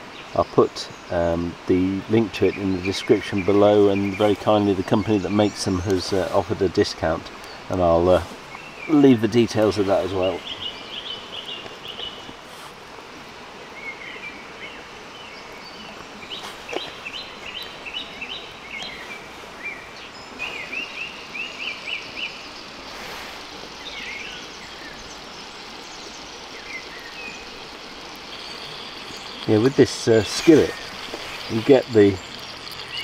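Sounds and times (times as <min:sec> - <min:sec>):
songbirds chirping trills: 0:00.0 - 0:33.0
steady outdoor hiss: 0:00.0 - 0:33.0.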